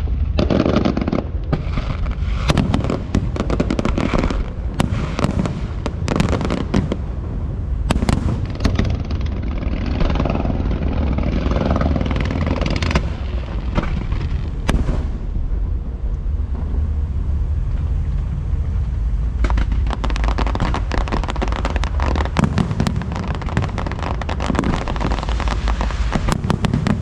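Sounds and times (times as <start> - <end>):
constant low rumble: 0.0 - 27.0
fireworks bangs: 0.0 - 27.0
fireworks crackling hiss: 0.0 - 27.0.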